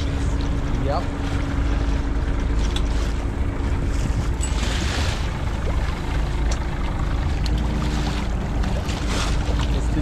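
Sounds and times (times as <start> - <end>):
boat engine rumbling: 0.0 - 10.0
water splashing on hull: 0.0 - 10.0.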